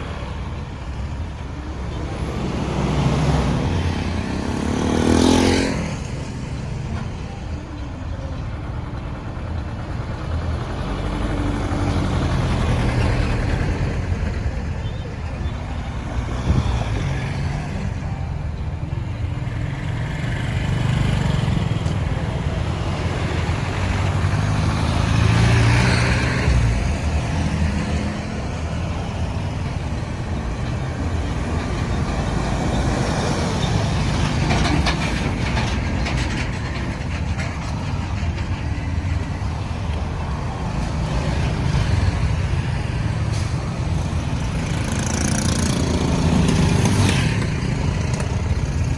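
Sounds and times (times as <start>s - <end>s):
road traffic rumble: 0.0s - 48.9s.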